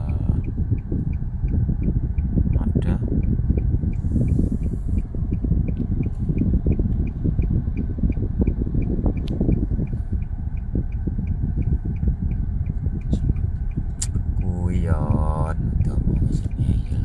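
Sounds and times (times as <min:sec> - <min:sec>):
car cabin rumble: 0:00.0 - 0:17.0
steady high ticking: 0:00.0 - 0:17.0.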